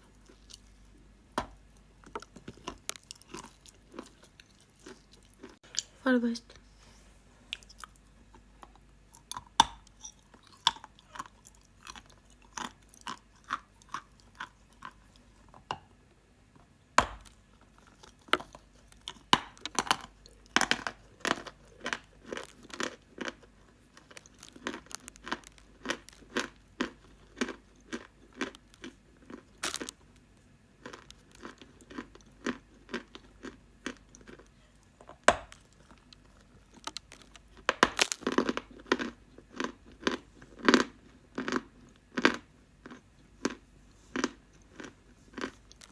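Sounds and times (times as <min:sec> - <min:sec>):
crunchy chewing: 0:00.0 - 0:05.9, 0:07.5 - 0:15.7, 0:17.2 - 0:45.9.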